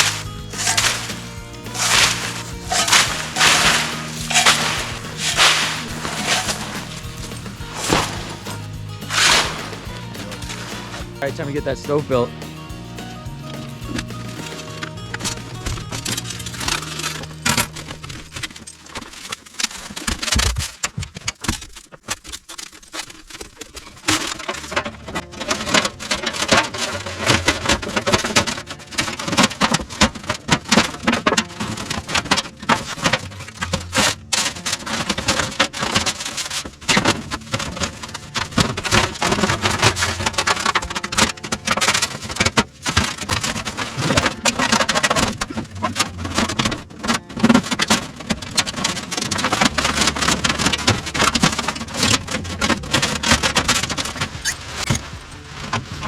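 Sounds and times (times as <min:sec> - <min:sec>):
stove parts clicking and knocking: 0:00.0 - 0:56.0.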